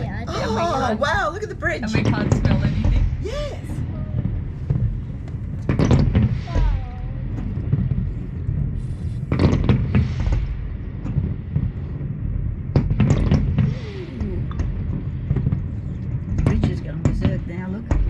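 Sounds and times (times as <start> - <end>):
muffled fireworks cracking: 0.0 - 18.0
steady low rumble: 0.0 - 18.0.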